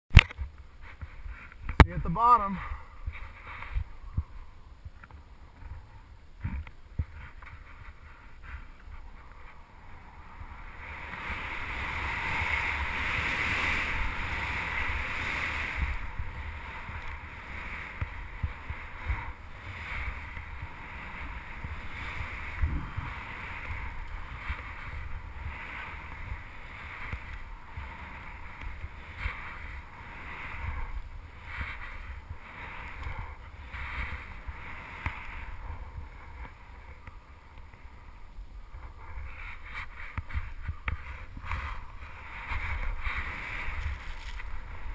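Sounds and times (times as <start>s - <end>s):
wind buffeting microphone: 2.7s - 44.9s
skis rushing through snow: 5.6s - 44.9s.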